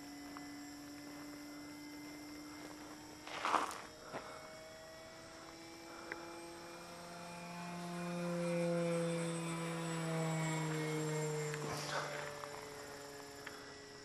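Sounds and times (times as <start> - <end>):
model plane engine buzzing: 0.0 - 14.0.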